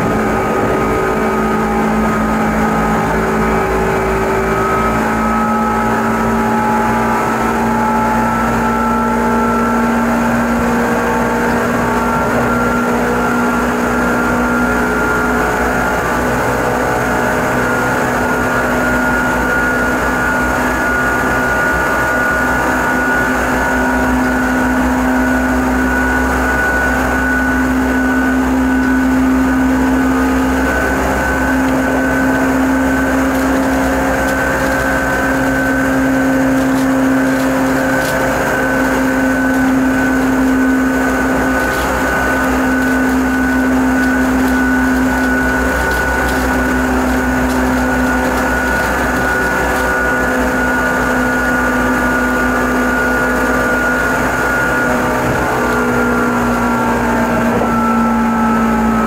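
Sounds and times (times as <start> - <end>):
electric drive whine: 0.0 - 59.0
train wheels rumbling on rail: 0.0 - 59.0.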